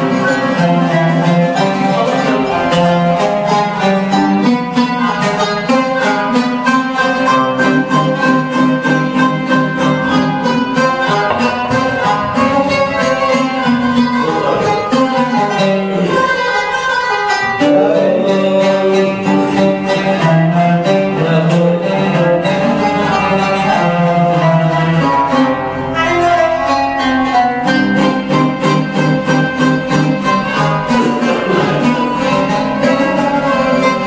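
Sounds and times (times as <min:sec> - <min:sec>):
oud and qanun playing: 0:00.0 - 0:34.0.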